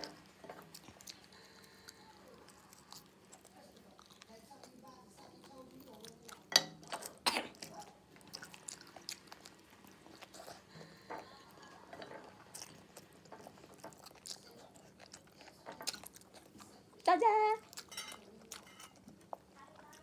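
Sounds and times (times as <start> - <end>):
person chewing with wet smacking: 0.0 - 20.0.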